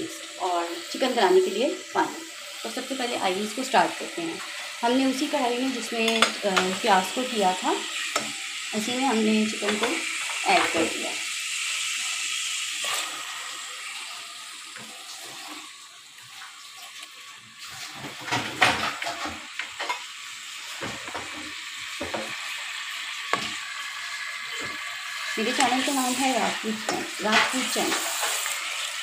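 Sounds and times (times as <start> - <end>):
oil sizzling in a pan: 0.0 - 29.0.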